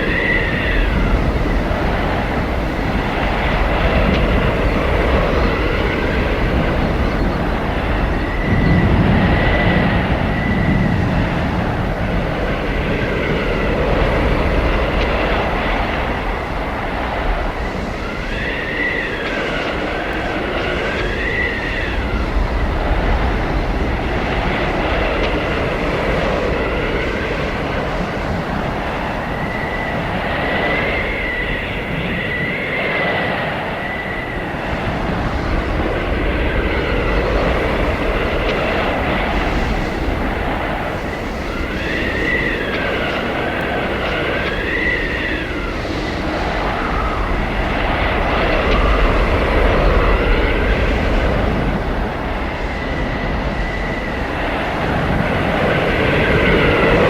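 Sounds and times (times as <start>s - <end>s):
blizzard wind howling: 0.0s - 57.0s.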